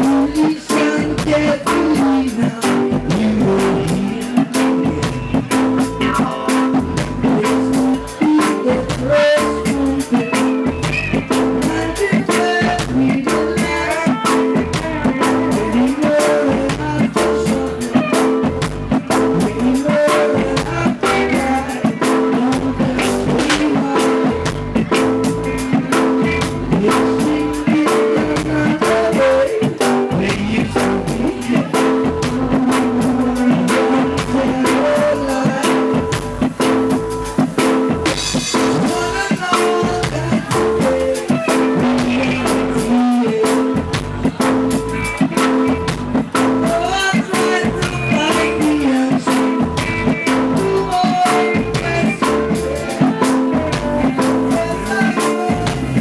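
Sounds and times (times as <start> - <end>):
live band music: 0.0 - 56.0.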